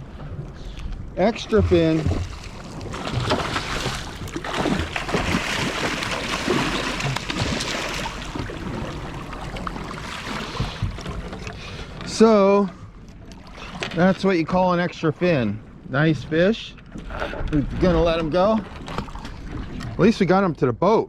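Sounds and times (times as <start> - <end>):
water splashing beside boat: 0.0 - 15.8, 16.8 - 20.1.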